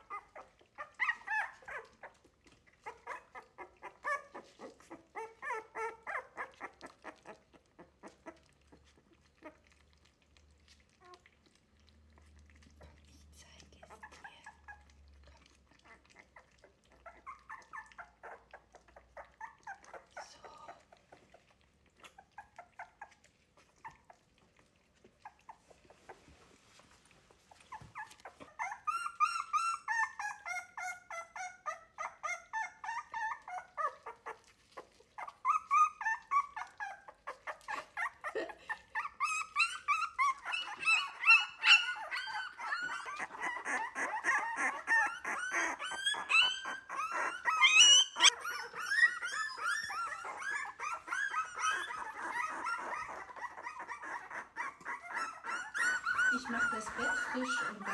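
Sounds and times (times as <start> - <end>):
puppies whimpering and squealing: 0.0 - 57.9
puppy lapping milk: 0.0 - 57.9.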